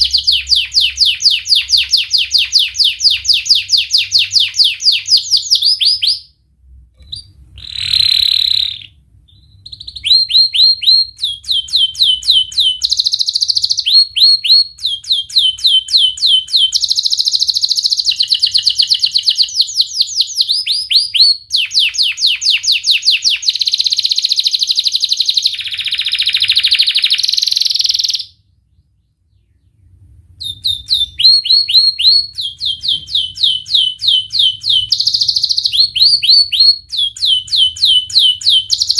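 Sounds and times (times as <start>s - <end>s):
canary singing: 0.0s - 6.4s, 7.0s - 38.9s.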